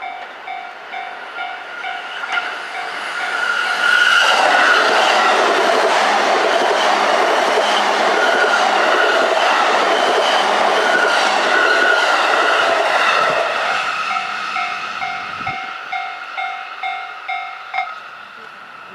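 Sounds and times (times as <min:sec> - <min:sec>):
train passing with clickety-clack: 0:00.0 - 0:18.9.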